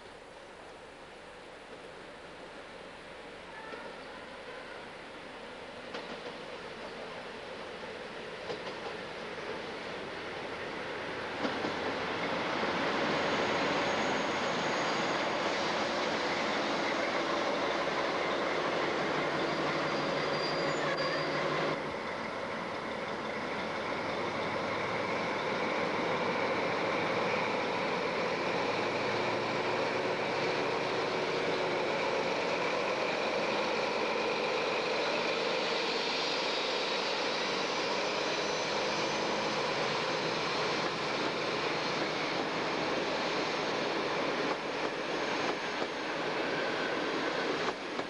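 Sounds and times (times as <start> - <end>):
diesel locomotive passing: 0.0 - 48.0
carriages rolling on rails: 5.8 - 48.0.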